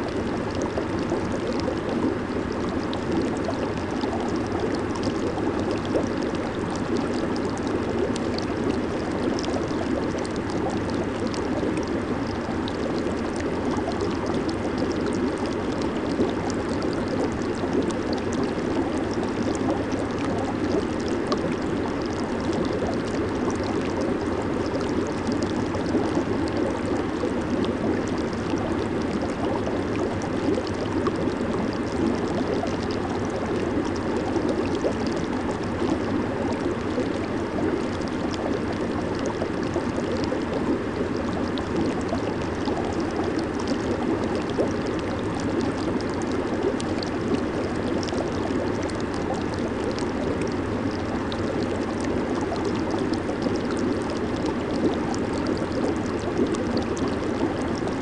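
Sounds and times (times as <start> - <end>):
fizz of bursting bubbles: 0.0 - 58.0
hot tub water bubbling: 0.0 - 58.0.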